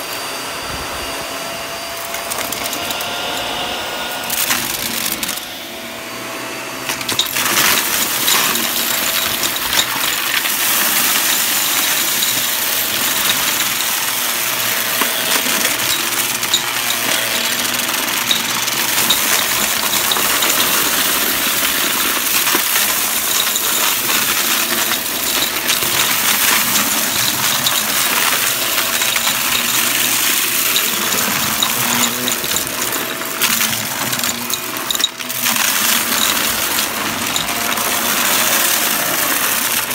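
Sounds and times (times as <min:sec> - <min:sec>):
vacuum cleaner running on carpet: 0:00.0 - 0:39.9
debris clinking into vacuum: 0:02.0 - 0:03.1, 0:04.2 - 0:05.5, 0:06.9 - 0:39.9.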